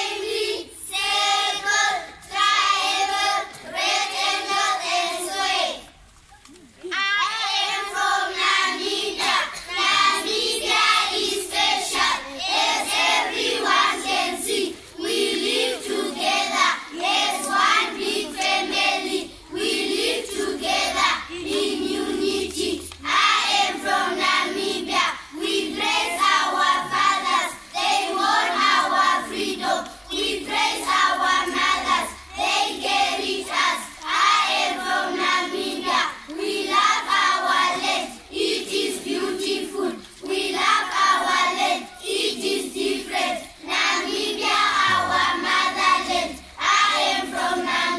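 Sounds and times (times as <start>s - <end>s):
children's choir singing: 0.0s - 5.9s, 6.9s - 47.9s.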